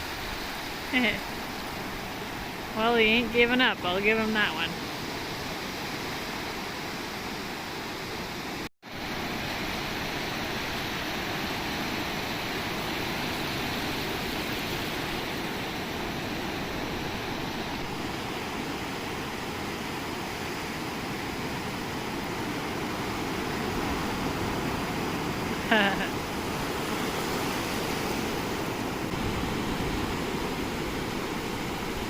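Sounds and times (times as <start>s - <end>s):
ocean surf breaking on a beach: 0.0s - 32.0s.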